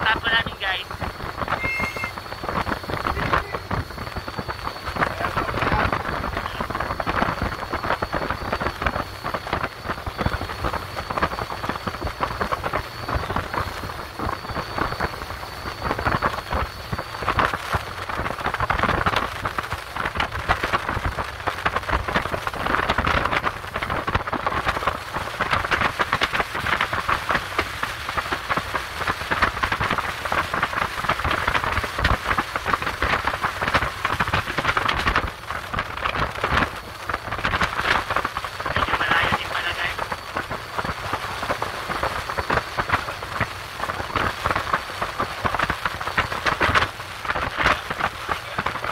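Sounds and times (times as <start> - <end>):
faint high whine: 0.0 - 48.9
low rumble: 0.0 - 48.9
water rushing along boat hull: 0.0 - 48.9.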